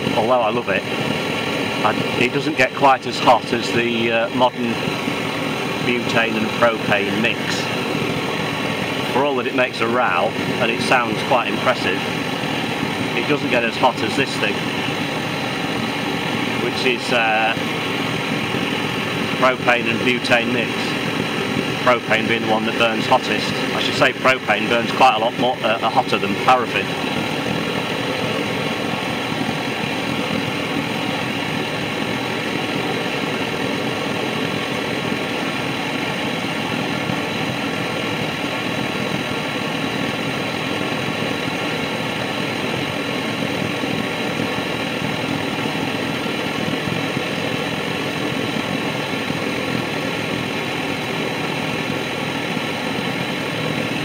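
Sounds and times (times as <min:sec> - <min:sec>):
blowlamp jet roaring: 0:00.0 - 0:54.0.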